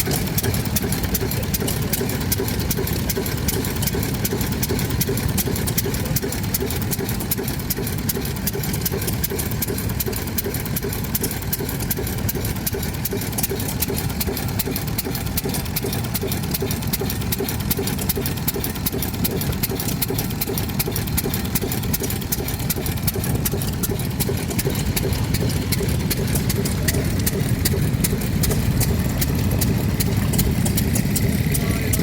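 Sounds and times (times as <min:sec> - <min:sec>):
stationary engine idling: 0:00.0 - 0:32.0.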